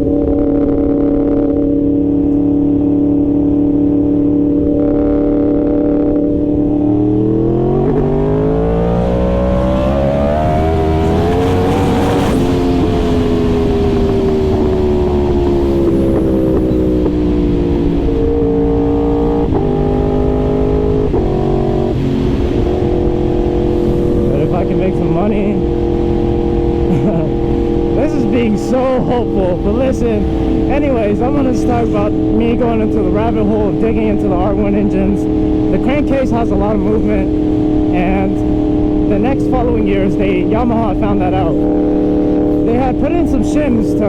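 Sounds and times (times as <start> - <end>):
sport motorcycle engine revving: 0.0 - 44.0.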